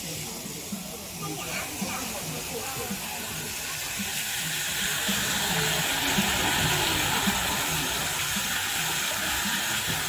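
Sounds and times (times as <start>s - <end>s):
steady hissing rush: 0.0s - 10.0s.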